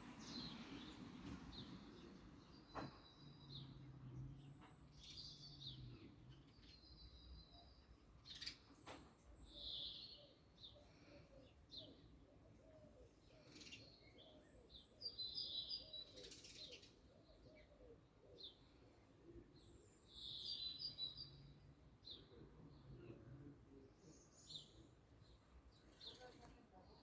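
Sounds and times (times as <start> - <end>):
bird song phrases: 0.0 - 27.0.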